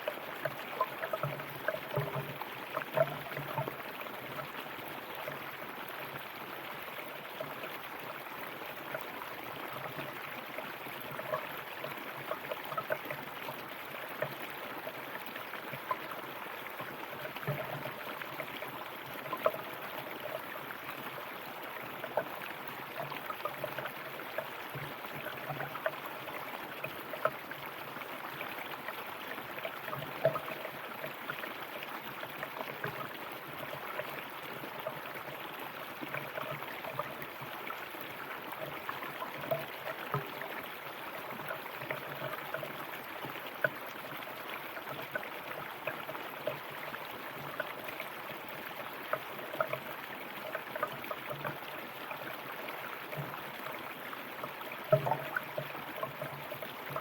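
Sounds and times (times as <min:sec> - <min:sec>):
river water flowing: 0:00.0 - 0:57.0
water gurgles and splashes: 0:00.0 - 0:57.0.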